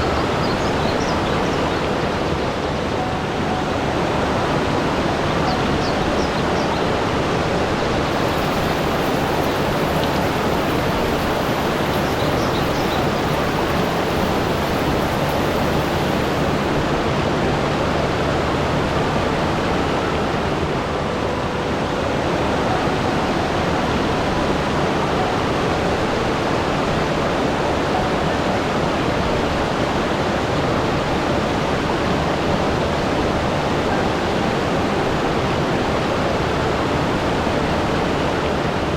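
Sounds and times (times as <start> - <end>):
rushing flowing water: 0.0 - 38.9.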